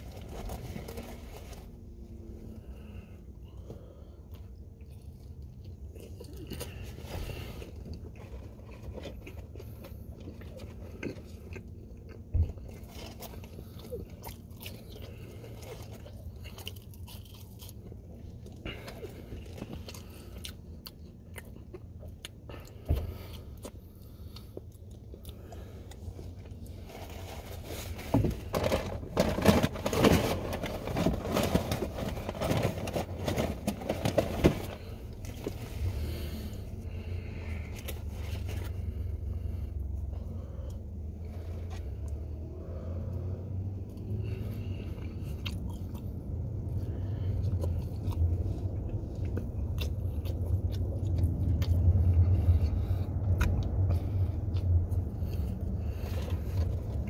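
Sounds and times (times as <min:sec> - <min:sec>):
person chewing food: 0:00.0 - 0:28.2, 0:34.1 - 0:57.0.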